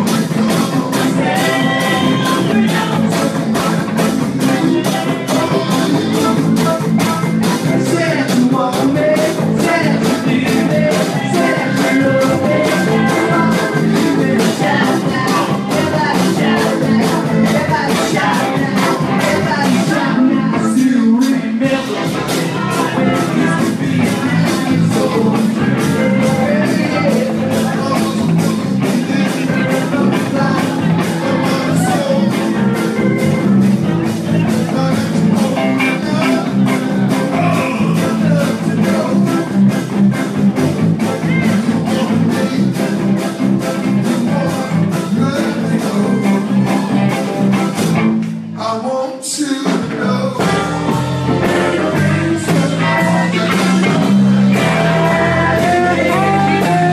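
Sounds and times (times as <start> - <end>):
person singing: 0.0 - 56.9
rock and roll band playing: 0.0 - 56.9.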